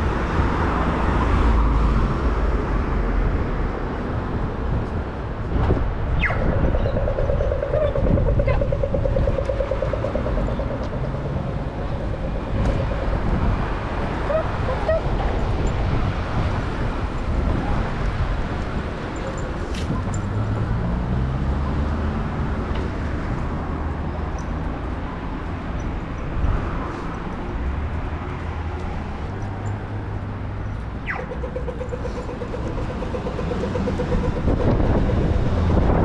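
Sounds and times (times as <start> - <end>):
wind buffeting microphone: 0.0 - 21.3, 22.2 - 36.0.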